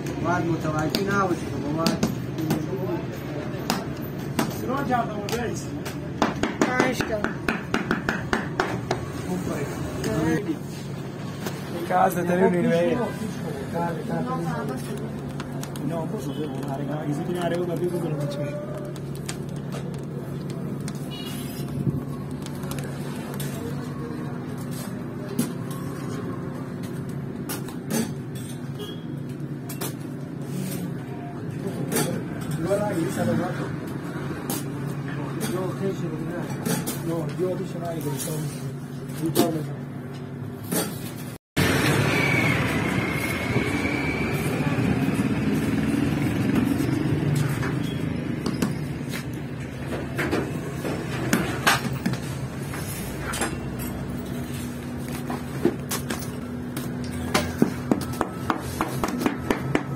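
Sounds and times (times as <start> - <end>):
knocks and clatter of bakery work: 0.0 - 12.4, 14.1 - 59.9
road traffic hum: 0.0 - 59.9.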